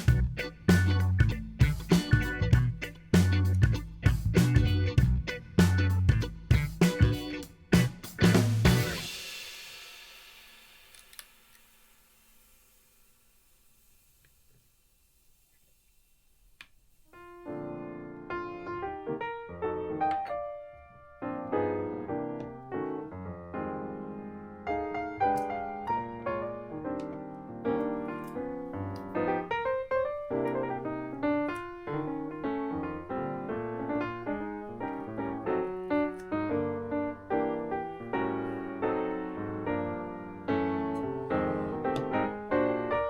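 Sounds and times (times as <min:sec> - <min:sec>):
piano music: 0:00.0 - 0:09.2, 0:17.2 - 0:43.0.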